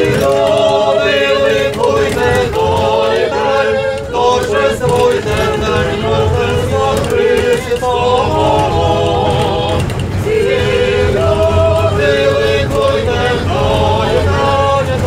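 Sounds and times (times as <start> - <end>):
group of voices singing carol: 0.0 - 15.0
tram rumbling: 0.0 - 15.0.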